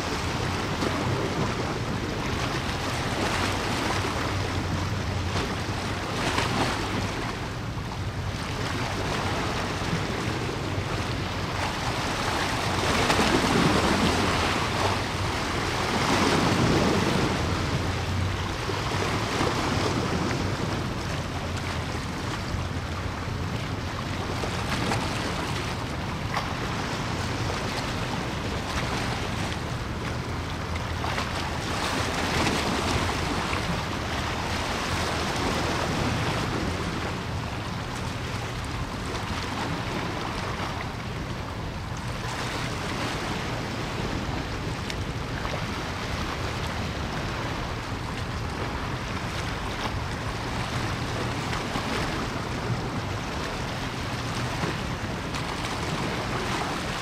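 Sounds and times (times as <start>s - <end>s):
water lapping at shore: 0.0s - 57.0s.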